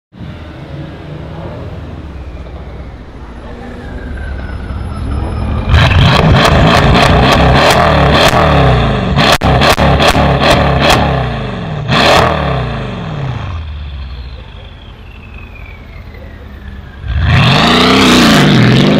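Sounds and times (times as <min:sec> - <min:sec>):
car engine revving: 0:03.0 - 0:18.9.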